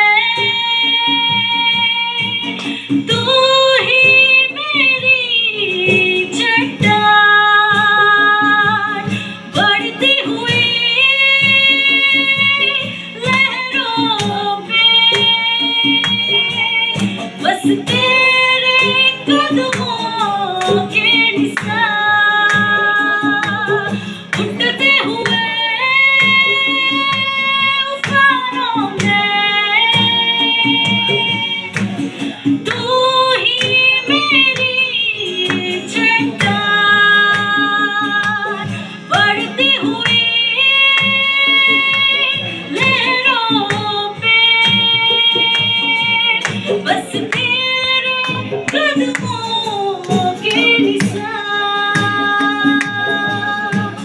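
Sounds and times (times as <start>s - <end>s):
acoustic guitar: 0.0s - 54.0s
drums: 0.0s - 54.0s
woman singing into a microphone: 0.0s - 54.0s.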